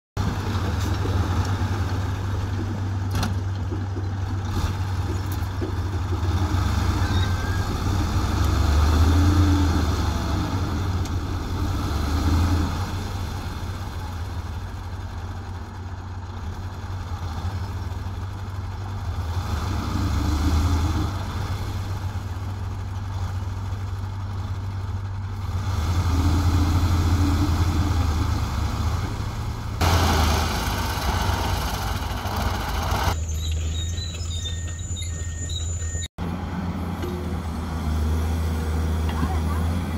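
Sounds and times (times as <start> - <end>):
diesel truck engine revving: 4.4 - 33.4, 36.2 - 39.9.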